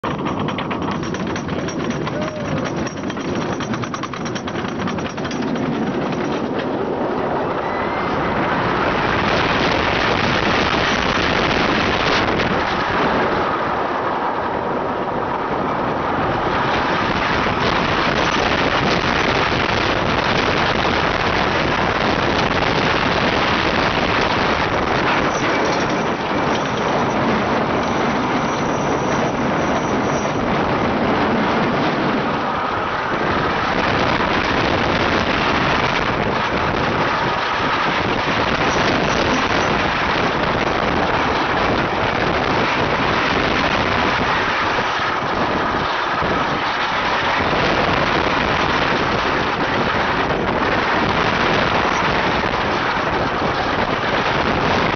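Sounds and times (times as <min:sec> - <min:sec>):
roller coaster wheels rattling: 0:00.0 - 0:54.9
wind rushing past microphone: 0:00.0 - 0:54.9.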